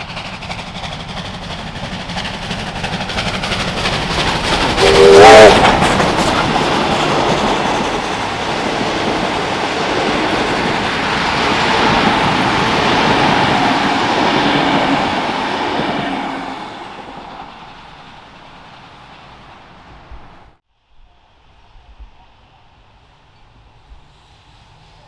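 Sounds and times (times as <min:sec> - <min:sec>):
train wheels clattering on rails: 0:00.0 - 0:20.4.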